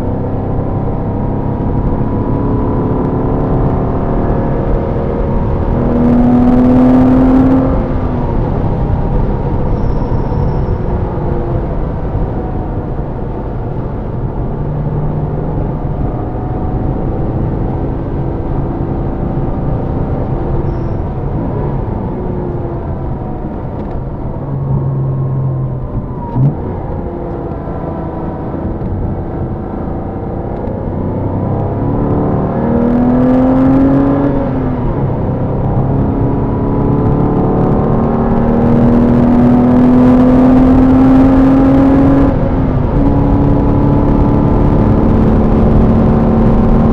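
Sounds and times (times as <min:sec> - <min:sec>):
car engine accelerating: 0:00.0 - 0:46.9.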